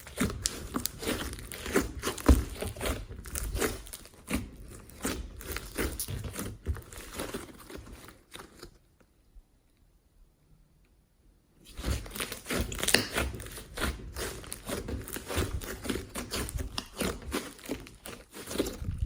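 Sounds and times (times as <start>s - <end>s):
slime squished by hand: 0.0s - 8.1s, 11.7s - 19.0s
slime crackling and popping: 0.0s - 8.6s, 11.7s - 19.0s.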